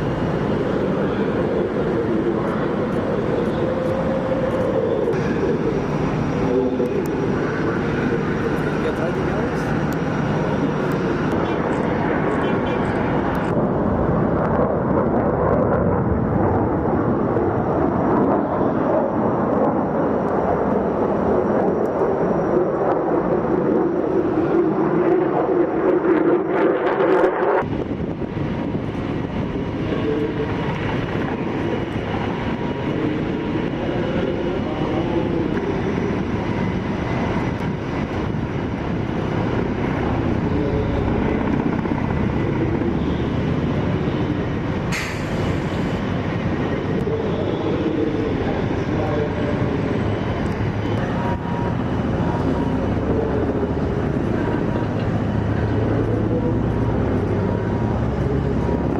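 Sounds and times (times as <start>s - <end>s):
quieter engine noise: 0.0s - 26.3s, 27.6s - 58.9s
loud aircraft engine: 0.0s - 58.9s.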